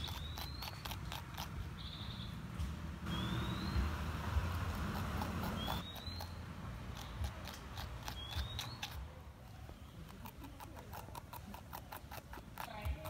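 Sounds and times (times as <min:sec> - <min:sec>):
porcupine chewing greens: 0:00.0 - 0:02.3, 0:03.7 - 0:13.0.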